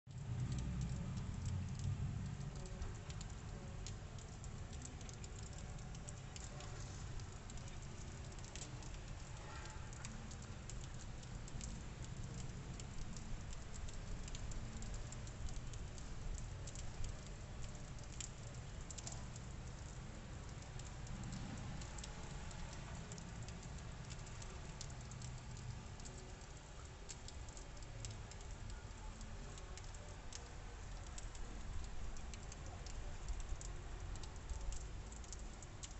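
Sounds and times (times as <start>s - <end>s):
wet snow pattering on roofs: 0.1s - 35.9s.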